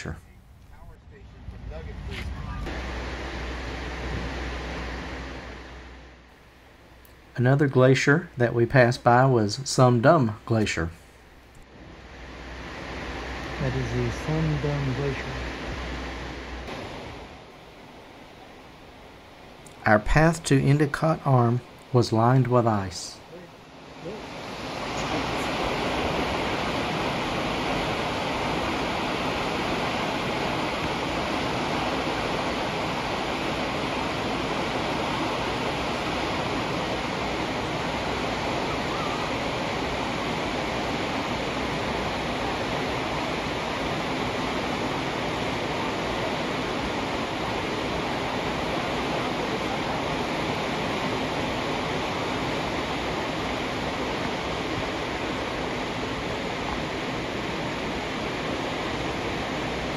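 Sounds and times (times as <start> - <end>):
wind: 0.0 - 59.9
water rushing: 0.8 - 59.9.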